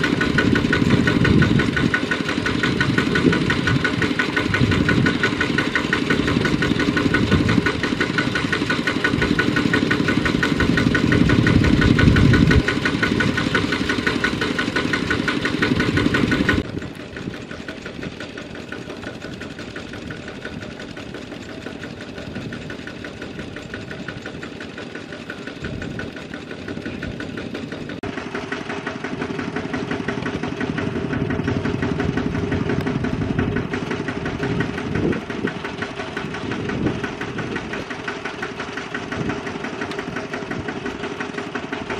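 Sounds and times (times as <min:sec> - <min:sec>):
diesel tractor engine labouring: 0:00.0 - 0:41.9.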